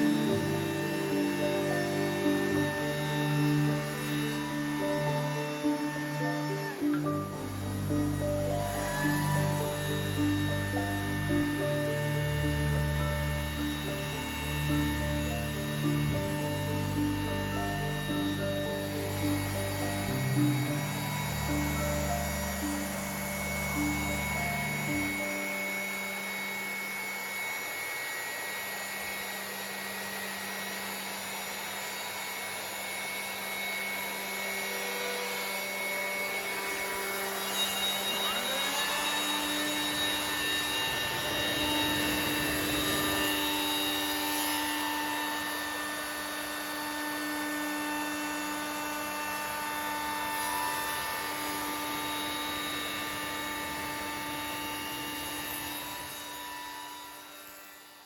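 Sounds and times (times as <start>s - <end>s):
router spindle whine: 0.0s - 58.0s.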